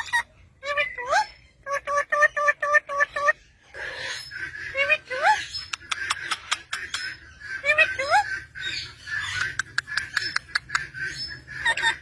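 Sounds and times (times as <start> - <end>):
parrot chattering: 0.0 - 12.0.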